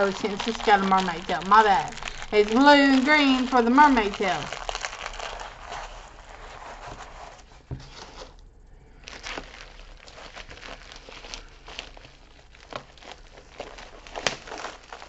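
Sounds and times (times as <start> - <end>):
plastic wrapping crinkling: 0.0 - 8.4, 9.0 - 15.0.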